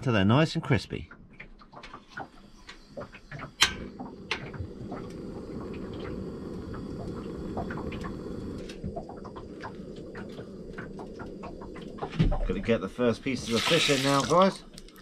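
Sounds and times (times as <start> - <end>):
gas burner rushing: 2.0 - 15.0.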